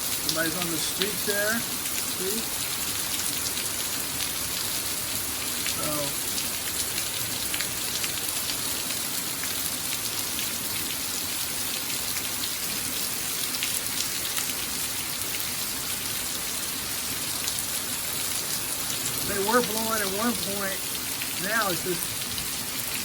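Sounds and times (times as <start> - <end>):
raindrops ticking close by: 0.0 - 23.0
torrential rain pouring: 0.0 - 23.0.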